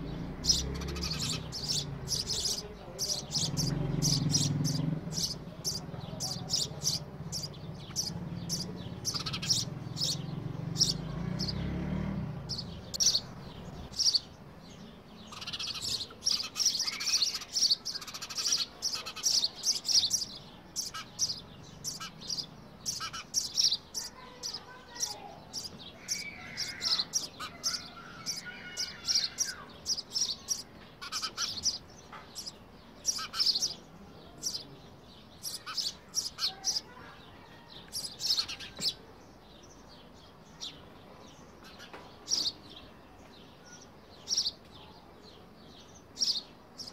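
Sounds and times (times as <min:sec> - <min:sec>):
sparrows chirping: 0:00.0 - 0:46.9.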